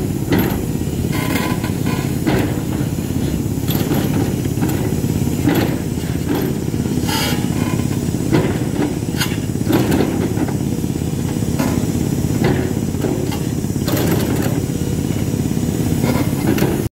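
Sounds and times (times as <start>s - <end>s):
excavator diesel engine: 0.0s - 16.9s.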